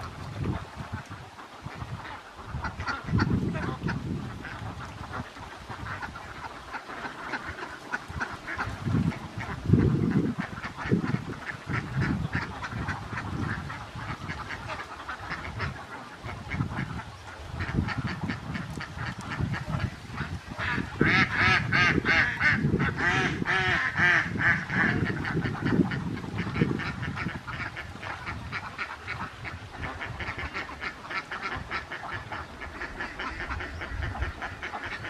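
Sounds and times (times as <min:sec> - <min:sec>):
ducks quacking: 0:00.0 - 0:35.0.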